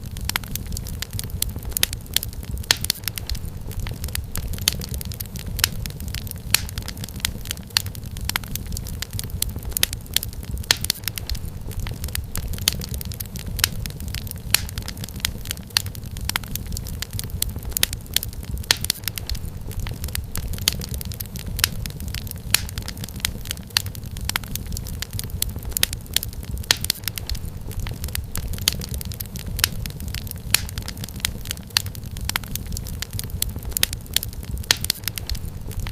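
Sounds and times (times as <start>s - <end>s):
firewood popping and snapping: 0.0s - 35.9s
wood fire crackling: 0.0s - 35.9s.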